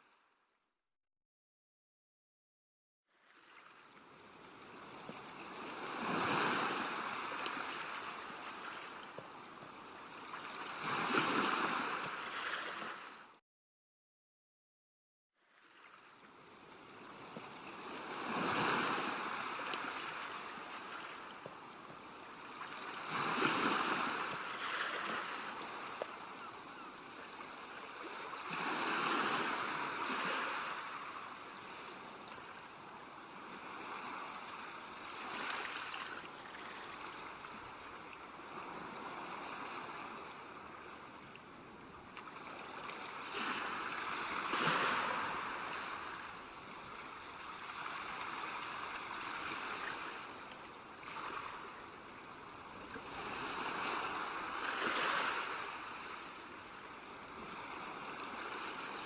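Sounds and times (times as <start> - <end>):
ocean waves breaking on shore: 3.2 - 13.4, 15.4 - 59.0.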